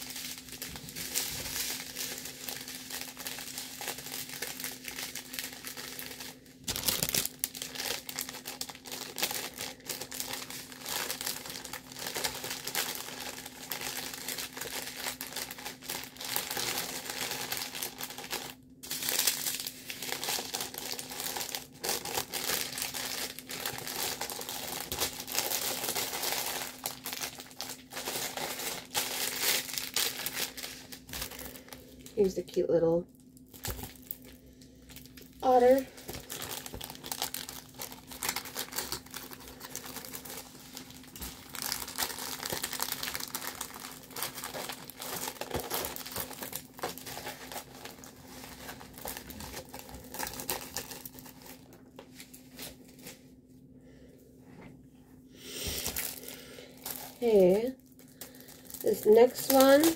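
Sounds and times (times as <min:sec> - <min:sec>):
packaging crinkling and rustling: 0:00.0 - 0:32.6, 0:33.2 - 0:53.3, 0:55.7 - 0:59.9.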